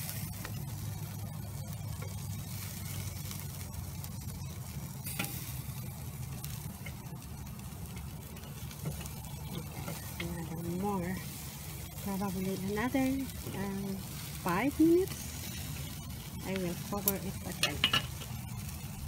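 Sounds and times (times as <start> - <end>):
meat sizzling on a grill: 0.0 - 19.0
steady low hum: 0.0 - 19.0.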